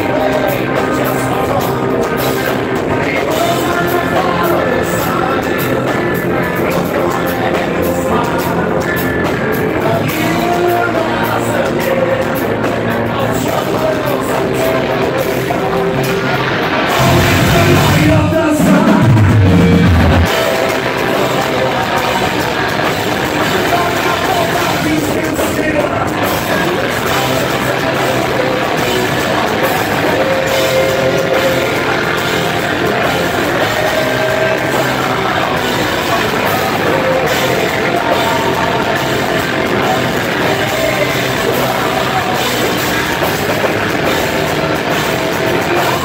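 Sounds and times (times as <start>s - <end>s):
heavy metal band playing live: 0.0s - 46.0s
male lead vocal: 0.0s - 46.0s.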